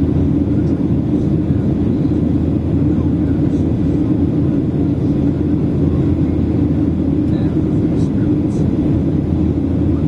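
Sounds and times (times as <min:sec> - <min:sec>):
airplane cabin drone: 0:00.0 - 0:10.0.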